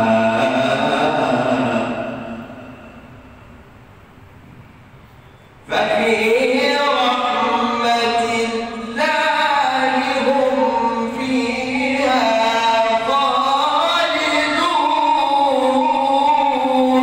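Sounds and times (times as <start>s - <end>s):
man chanting melodically: 0.0s - 3.1s, 5.6s - 17.0s.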